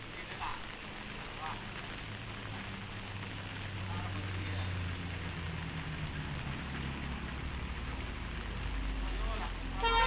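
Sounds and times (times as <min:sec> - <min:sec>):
constant hiss: 0:00.0 - 0:10.0.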